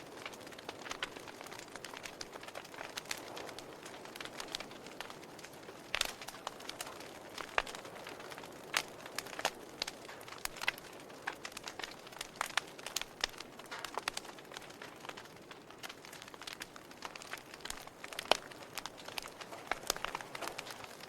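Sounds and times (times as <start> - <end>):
soft hiss of burning: 0.0 - 21.0
wood fire crackling: 0.0 - 21.0.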